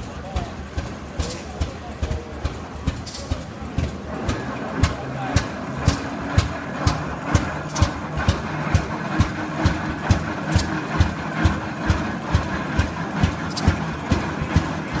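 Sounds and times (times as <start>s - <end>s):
tractor engine exhaust popping: 0.0s - 15.0s.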